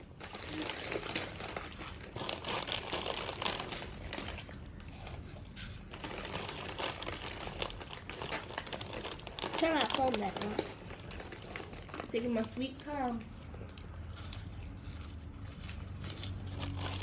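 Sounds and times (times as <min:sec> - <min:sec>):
snack bag crinkling: 0:00.0 - 0:17.0.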